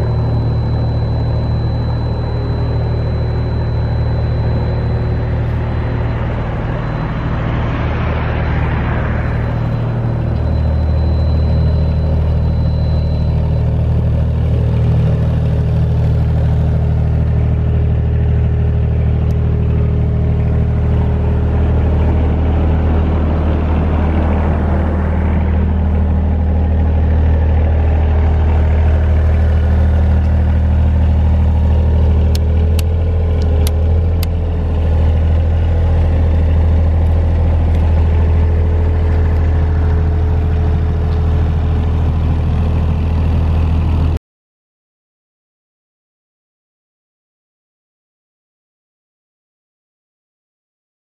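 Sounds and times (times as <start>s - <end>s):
generator engine humming: 0.0s - 44.2s.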